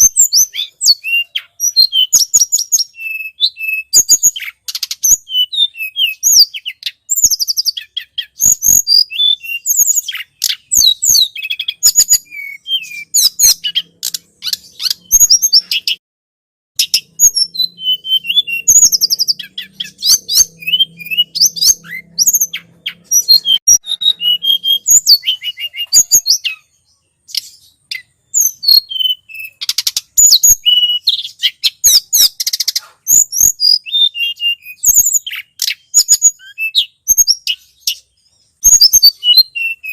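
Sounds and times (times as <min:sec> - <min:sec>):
bird chirping and trilling: 0:00.0 - 0:16.0, 0:16.8 - 0:39.9.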